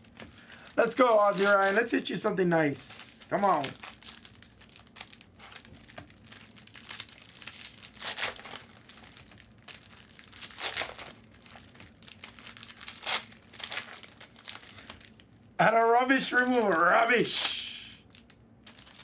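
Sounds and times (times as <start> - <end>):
foil wrappers crinkling and tearing: 0.0 - 19.0.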